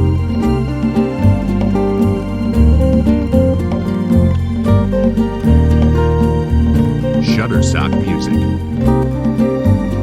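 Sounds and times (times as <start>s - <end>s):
plucked acoustic guitar: 0.0s - 10.0s
sustained low bass notes: 0.0s - 10.0s.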